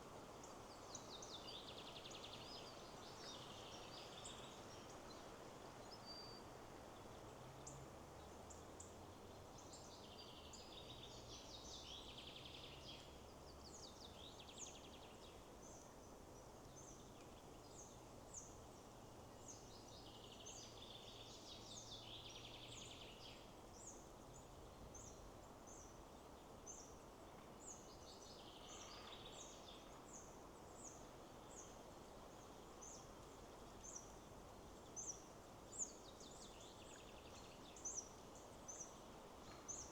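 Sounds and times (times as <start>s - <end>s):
faint forest birdsong: 0.0s - 39.9s
wind in trees: 0.0s - 39.9s.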